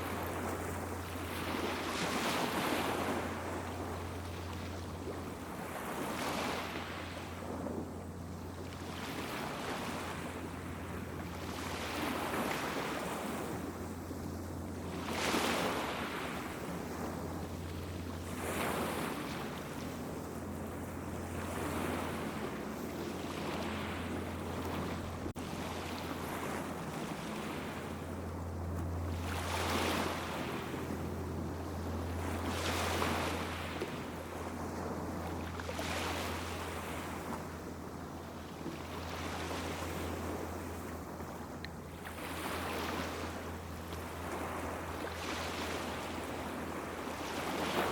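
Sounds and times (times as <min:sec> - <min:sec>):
small waves washing onto beach: 0:00.0 - 0:47.9
steady low hum: 0:00.0 - 0:47.9.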